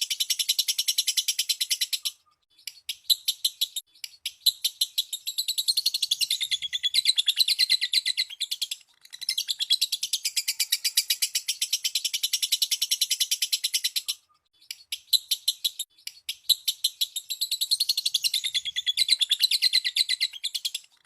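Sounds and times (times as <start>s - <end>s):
lovebird chattering: 0.0s - 21.0s.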